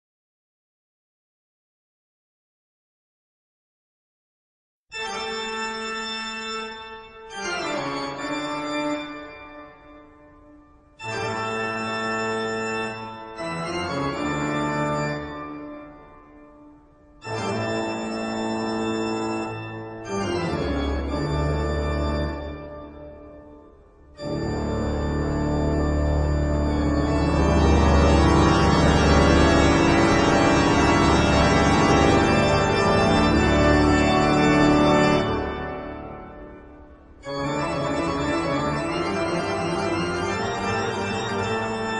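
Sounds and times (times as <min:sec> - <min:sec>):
organ chords: 0:04.9 - 0:41.9.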